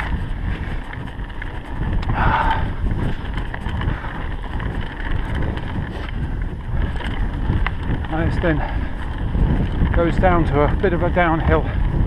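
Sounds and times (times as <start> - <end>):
bike tyres rumbling and rattling: 0.0 - 12.0
wind buffeting microphone: 0.0 - 12.0.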